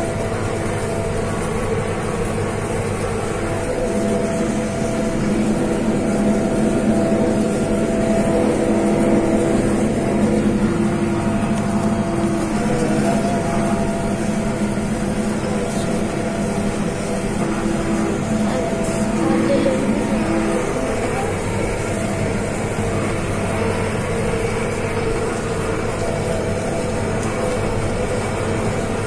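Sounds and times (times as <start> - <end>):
hay baler working: 0.0 - 29.0
tractor engine running: 0.0 - 29.0.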